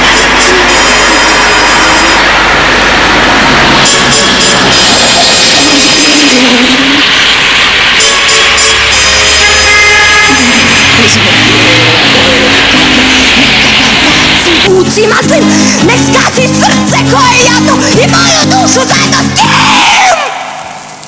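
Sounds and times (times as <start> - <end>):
rock song playing: 0.0 - 20.0.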